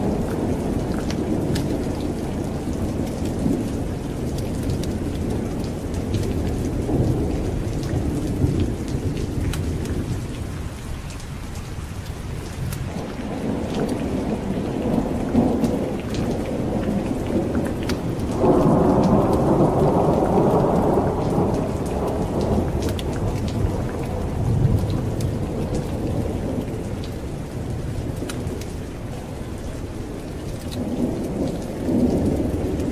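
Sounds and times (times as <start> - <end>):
rolling thunder: 0.0 - 10.8, 12.2 - 32.9
heavy rain: 0.0 - 32.9.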